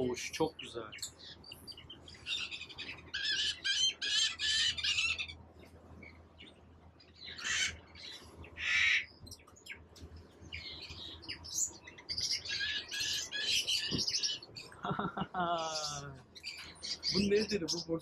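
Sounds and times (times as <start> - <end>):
birds squawking and chattering: 0.0 - 18.0.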